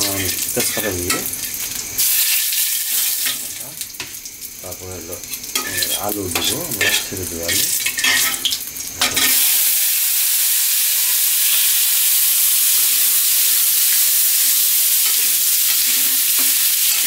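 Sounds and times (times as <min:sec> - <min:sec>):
potatoes sizzling in hot oil: 0:00.0 - 0:17.0.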